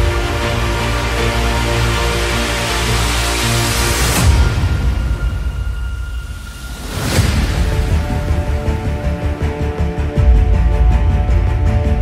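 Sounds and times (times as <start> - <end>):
music with pulsing low beat: 0.0 - 12.0.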